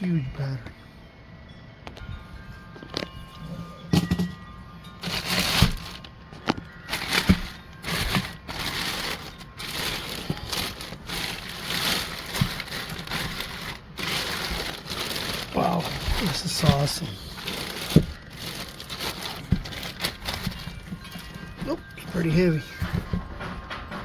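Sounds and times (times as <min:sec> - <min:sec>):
cardboard and packing rustling: 0:01.9 - 0:24.0.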